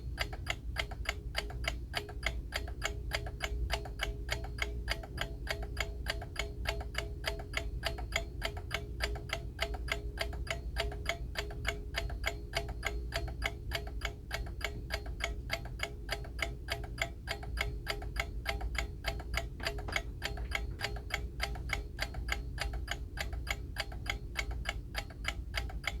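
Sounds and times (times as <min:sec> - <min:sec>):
alarm clock ticking: 0:00.0 - 0:26.0.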